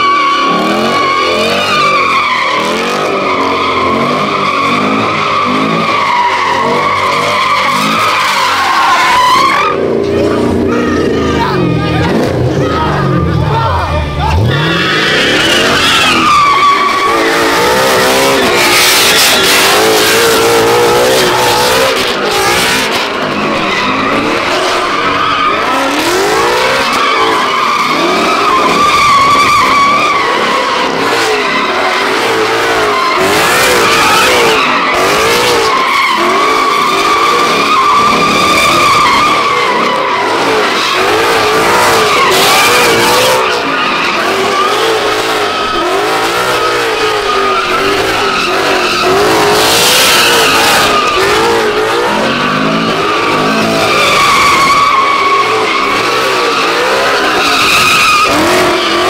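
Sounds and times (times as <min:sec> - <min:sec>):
car engine revving: 0:00.0 - 0:59.0
tires squealing: 0:00.0 - 0:59.0.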